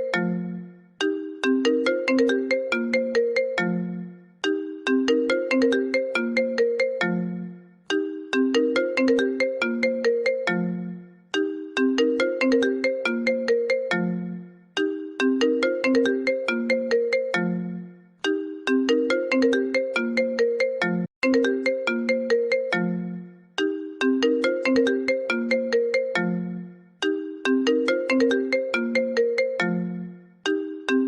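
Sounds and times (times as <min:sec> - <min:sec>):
phone ringtone melody: 0:00.0 - 0:31.0.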